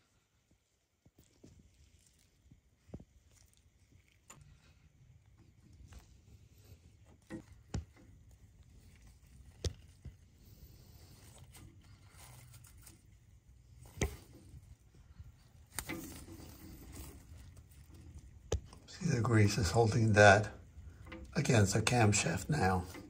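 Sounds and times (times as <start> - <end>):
light clicks and knocks: 4.2 - 23.0.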